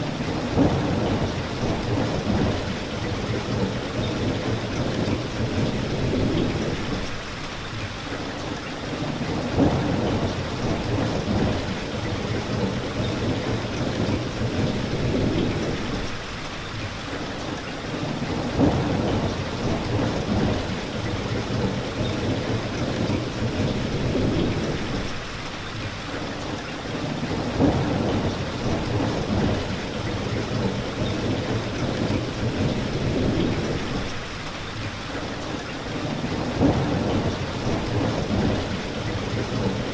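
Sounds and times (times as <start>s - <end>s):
thunder rumbling: 0.0s - 7.3s, 9.0s - 16.3s, 18.0s - 25.4s, 26.8s - 39.9s
heavy rain: 0.0s - 39.9s.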